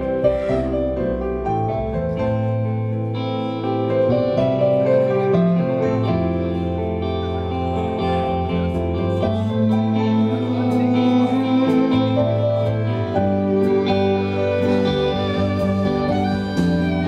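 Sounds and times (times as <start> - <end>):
keyboard chords: 0.0 - 17.0
low bass line: 0.0 - 17.0.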